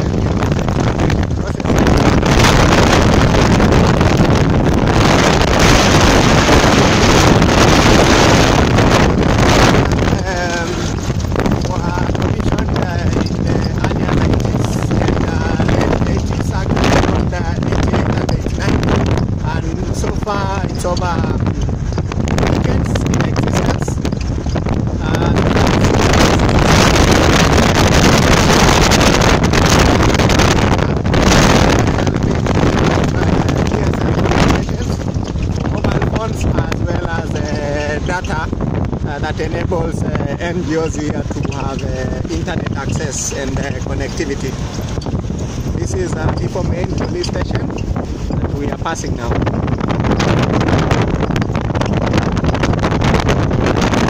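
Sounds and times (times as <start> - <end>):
engine and tyres rumbling: 0.0 - 54.0
wind buffeting microphone: 0.0 - 54.0.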